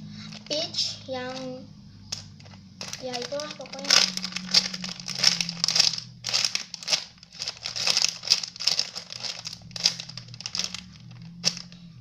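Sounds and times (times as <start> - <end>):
steady low hum: 0.0 - 12.0
squishy toy crinkling: 0.2 - 0.6, 1.3 - 1.5, 2.1 - 11.8.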